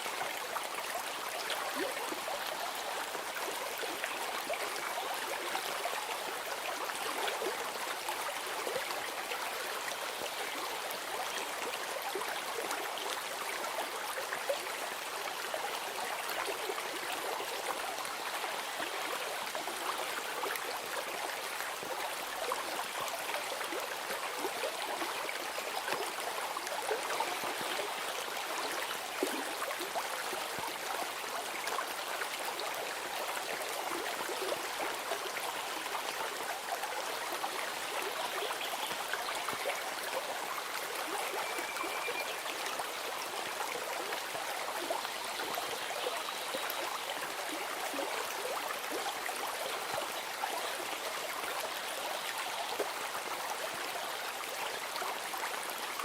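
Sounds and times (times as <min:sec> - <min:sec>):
stream babbling and trickling: 0:00.0 - 0:56.0.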